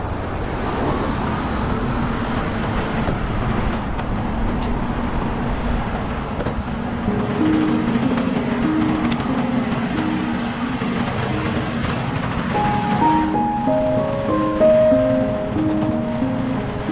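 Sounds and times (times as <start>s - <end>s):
road noise: 0.0s - 16.9s
truck engine drone: 0.0s - 16.9s.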